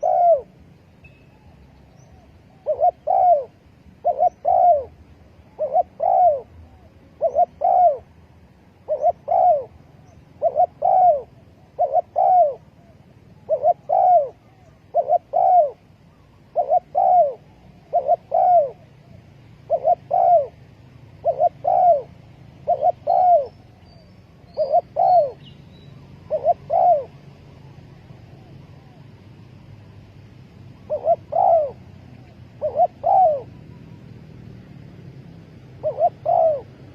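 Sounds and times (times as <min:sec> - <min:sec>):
dove cooing: 0:00.0 - 0:00.8, 0:02.0 - 0:08.2, 0:08.8 - 0:23.8, 0:24.5 - 0:29.3, 0:30.8 - 0:34.6, 0:35.5 - 0:36.9.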